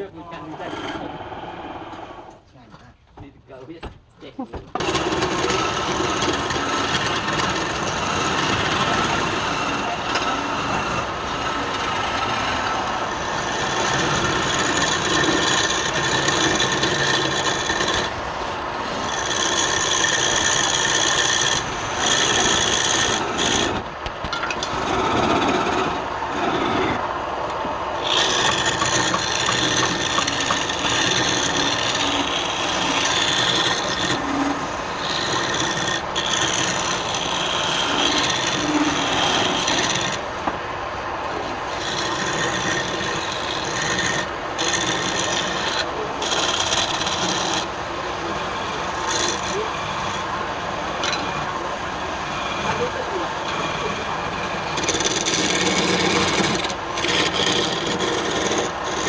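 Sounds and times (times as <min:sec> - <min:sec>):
wood lathe running: 0:00.0 - 0:02.4, 0:04.7 - 0:59.0
tool scraping spinning wood: 0:00.0 - 0:27.2, 0:28.0 - 0:59.0.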